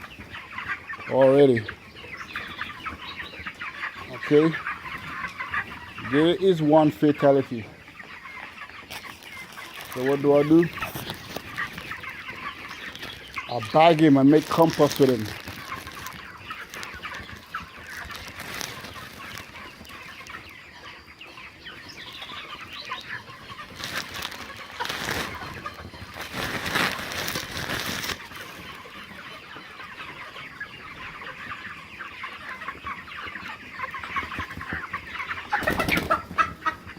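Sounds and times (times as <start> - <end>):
chickens clucking and chirping: 0.0 - 36.9
rustling and scuffling: 0.0 - 36.9.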